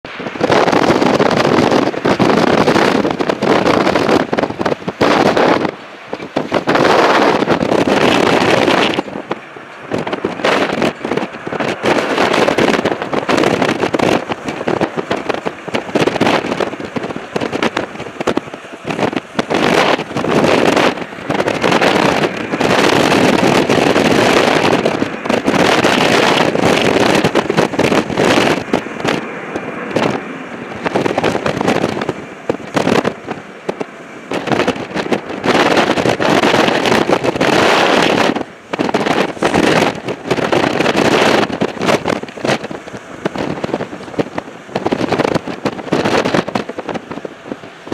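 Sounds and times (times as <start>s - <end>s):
jet engines roaring: 0.0s - 47.9s
wind buffeting microphone: 0.0s - 47.9s.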